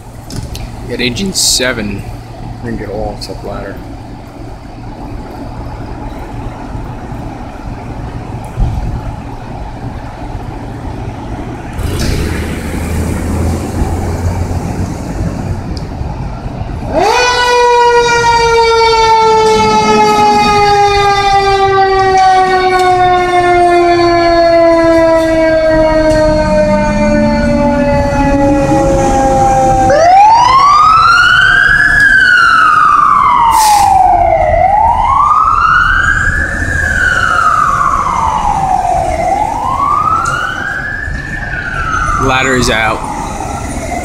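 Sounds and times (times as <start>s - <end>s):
wail siren rising and falling: 3.7s - 44.0s
siren winding down: 4.4s - 44.0s.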